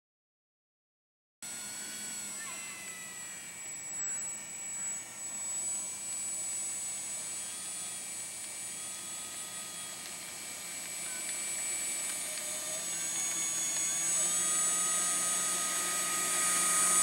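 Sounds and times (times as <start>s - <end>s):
model plane propeller whine: 1.4s - 17.0s.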